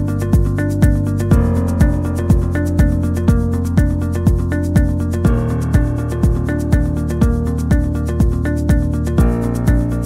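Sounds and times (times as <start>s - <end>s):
kick drum beat: 0.0s - 10.0s
sustained synth chords: 0.0s - 10.0s.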